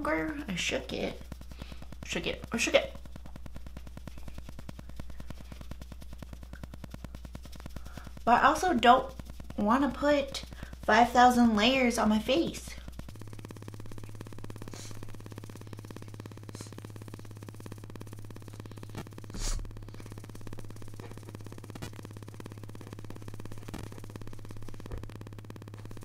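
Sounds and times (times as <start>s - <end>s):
faint buzz: 0.0s - 26.0s
low electrical hum: 0.0s - 26.0s.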